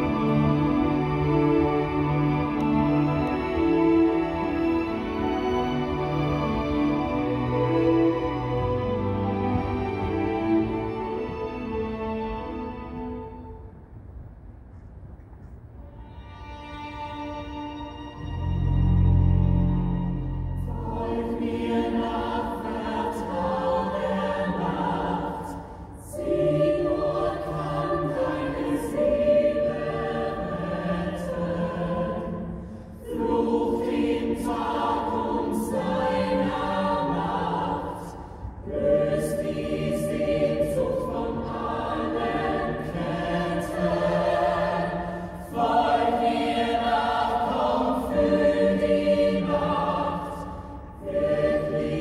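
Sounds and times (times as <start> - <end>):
chorus singing held chords: 0.0 - 13.7, 16.5 - 52.0.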